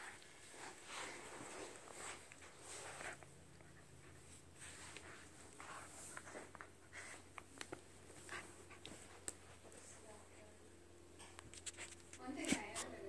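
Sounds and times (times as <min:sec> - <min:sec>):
faint scuffling on carpet: 0:00.0 - 0:10.6, 0:11.2 - 0:13.0.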